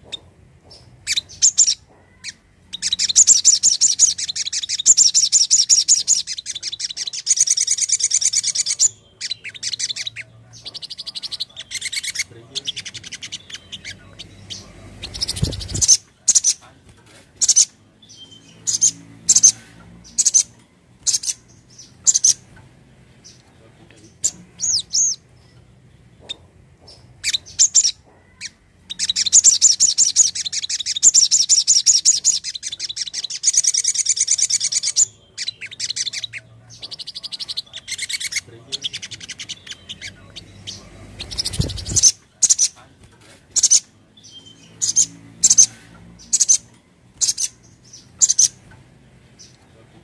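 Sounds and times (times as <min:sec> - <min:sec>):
bird chirps and trills: 0:00.0 - 0:16.7, 0:17.4 - 0:42.9, 0:43.5 - 0:50.0.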